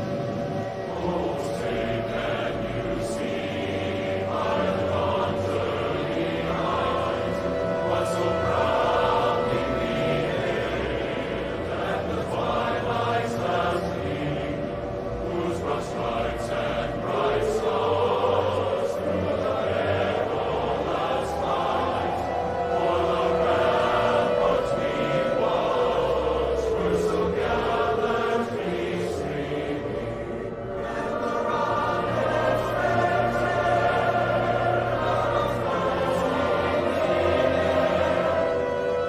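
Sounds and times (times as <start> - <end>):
choir singing long notes: 0.0 - 39.0
gliding tone: 0.0 - 39.0.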